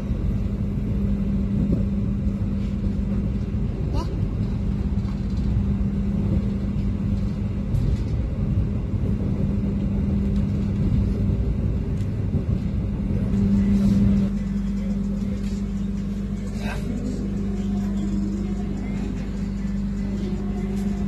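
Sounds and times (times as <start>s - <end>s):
low even hum: 0.0s - 21.0s
train running rumble: 0.0s - 21.0s.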